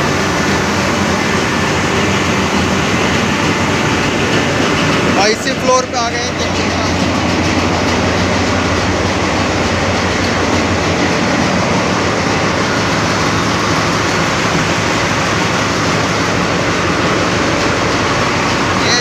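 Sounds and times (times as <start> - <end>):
engine room machinery din: 0.0 - 19.0.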